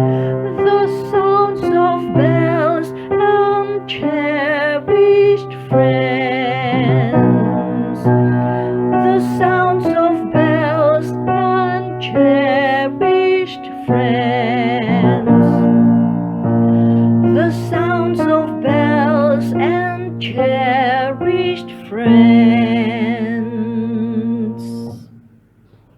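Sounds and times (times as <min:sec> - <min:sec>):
person singing with vibrato: 0:00.0 - 0:25.3
piano chords: 0:00.0 - 0:25.9.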